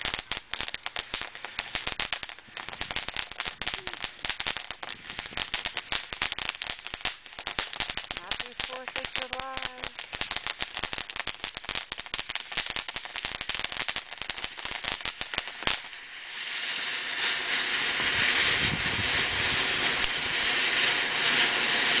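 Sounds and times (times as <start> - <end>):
firework bang: 0.0 - 22.0
firework hiss: 0.0 - 22.0
fireworks crackling: 0.0 - 22.0.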